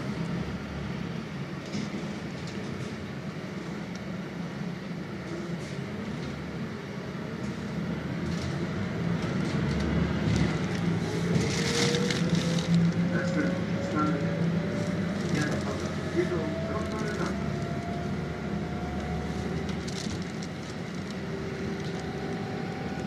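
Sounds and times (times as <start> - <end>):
bus engine hum: 0.0 - 23.0
road rumble: 0.0 - 23.0.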